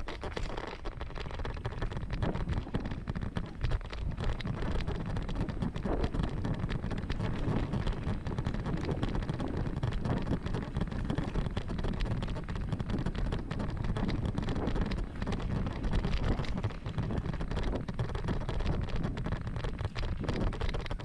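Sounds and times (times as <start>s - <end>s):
bike clicks and rattles: 0.0s - 21.0s
wind buffeting microphone: 1.0s - 21.0s.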